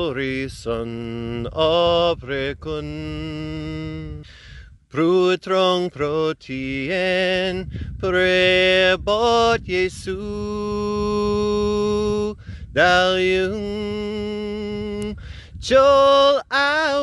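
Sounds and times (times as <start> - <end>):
man singing a hymn: 0.0 - 17.0.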